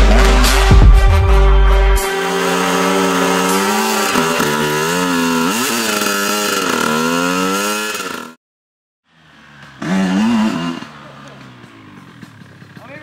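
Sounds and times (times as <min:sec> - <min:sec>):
dirt bike engine revving: 0:00.0 - 0:08.4, 0:09.1 - 0:13.0.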